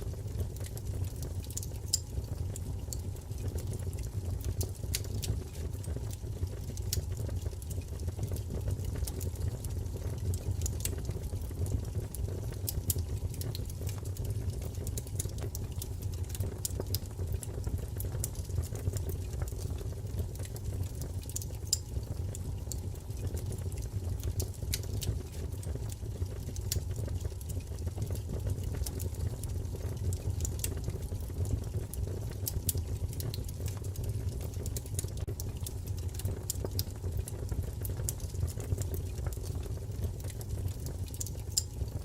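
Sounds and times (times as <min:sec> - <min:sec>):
fire crackles and pops: 0:00.0 - 0:42.0
low rumble of flame: 0:00.0 - 0:42.0.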